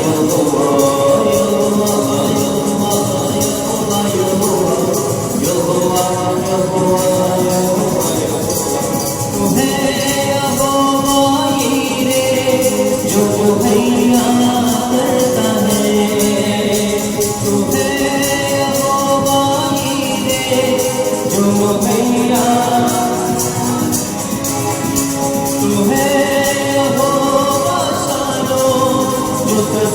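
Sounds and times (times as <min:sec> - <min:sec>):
percussion steady beat: 0:00.0 - 0:29.9
voices singing gospel: 0:00.0 - 0:29.9.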